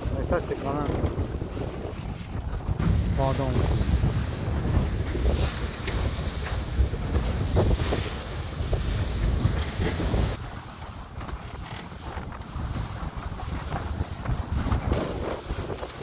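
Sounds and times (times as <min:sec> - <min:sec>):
choppy sea slapping hulls: 0:00.0 - 0:16.0
wind buffeting microphone: 0:00.0 - 0:16.0.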